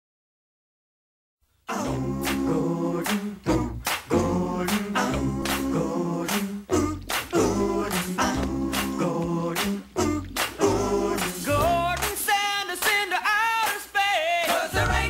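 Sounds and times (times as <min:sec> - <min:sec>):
voices singing in harmony: 0:01.6 - 0:15.0.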